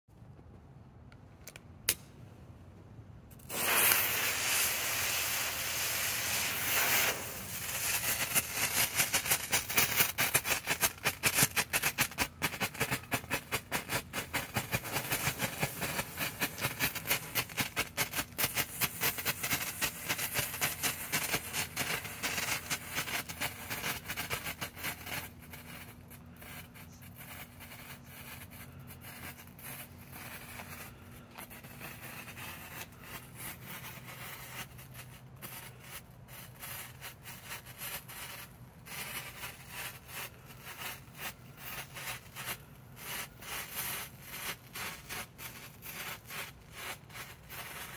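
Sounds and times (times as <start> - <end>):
firework pellets hissing: 3.3 - 47.9
rapid irregular popping: 5.4 - 47.9.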